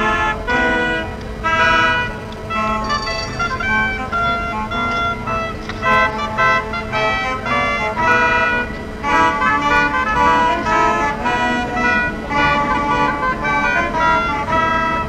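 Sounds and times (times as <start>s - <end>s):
horn-like tooting notes: 0.0s - 15.0s.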